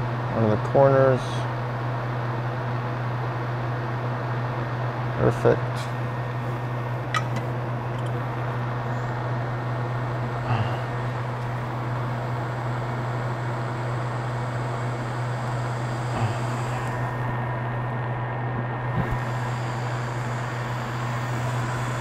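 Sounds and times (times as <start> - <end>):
hot air blower humming and hissing: 0.0 - 22.0.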